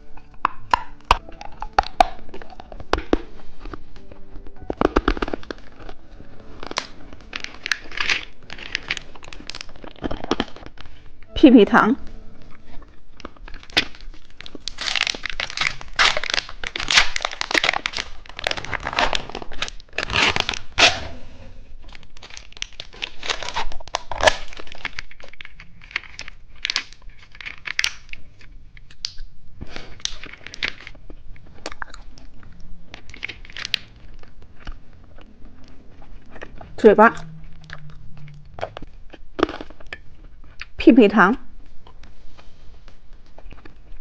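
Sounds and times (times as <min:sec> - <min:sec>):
plastic packaging tearing and crinkling: 0:00.4 - 0:11.3, 0:12.6 - 0:40.8.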